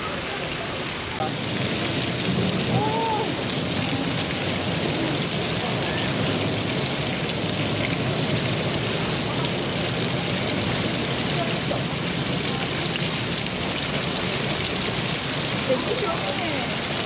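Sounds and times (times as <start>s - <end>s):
hiss of falling water: 0.0s - 17.0s.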